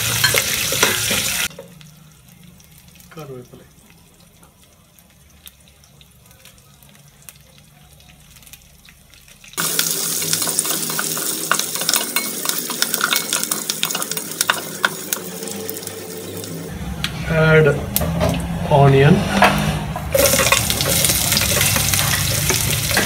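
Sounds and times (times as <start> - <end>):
spices sizzling in hot oil: 0.0 - 16.7, 20.1 - 23.0.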